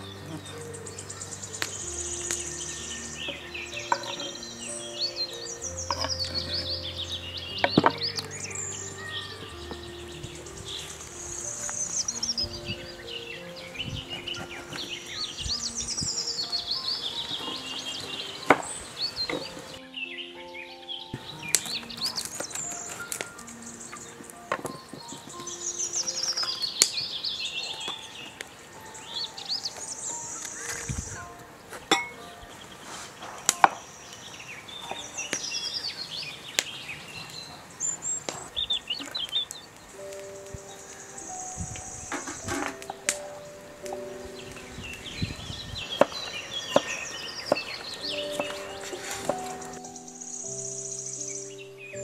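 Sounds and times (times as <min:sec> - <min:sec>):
birds chirping: 0:00.0 - 0:52.0
soft background music: 0:00.0 - 0:52.0.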